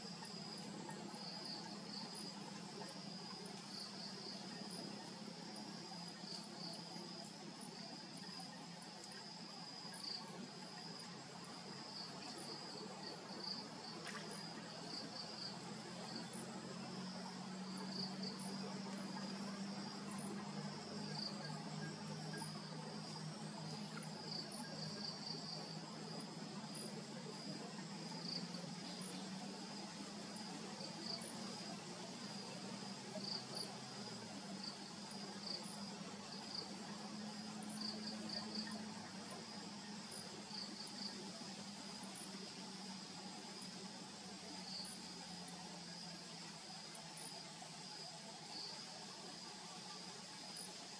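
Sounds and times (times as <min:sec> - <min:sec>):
faint low hum: 0:00.0 - 0:50.9
insects chirring: 0:00.0 - 0:50.9.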